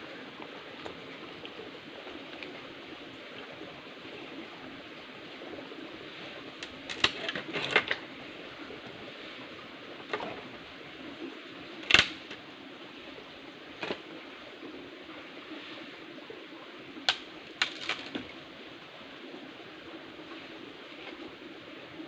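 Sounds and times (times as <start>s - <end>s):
shallow stream trickling: 0.0s - 22.0s.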